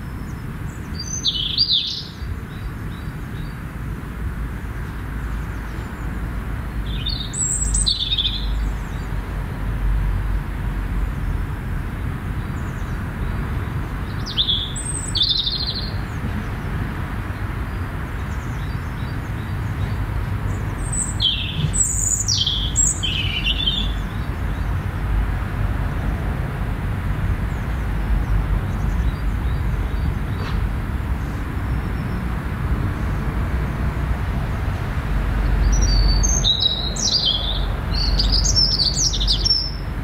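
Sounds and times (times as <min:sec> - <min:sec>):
birds chirping: 0:00.0 - 0:09.8, 0:12.2 - 0:25.5, 0:27.2 - 0:40.0.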